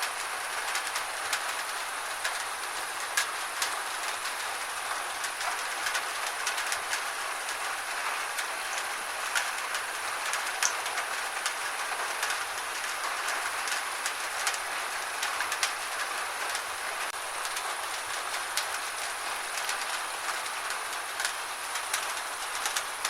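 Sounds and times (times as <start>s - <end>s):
gentle rain falling: 0.0s - 23.0s.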